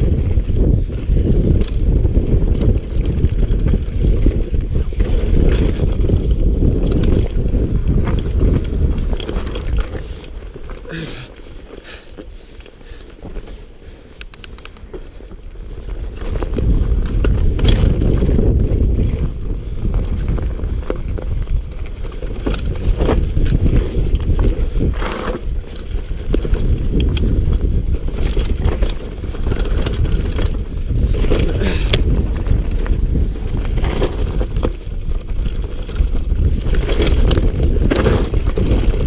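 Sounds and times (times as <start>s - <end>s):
bike clicks and rattles: 0.0s - 39.0s
bike tyres rumbling on dirt: 0.0s - 39.0s
wind buffeting microphone: 0.0s - 39.0s.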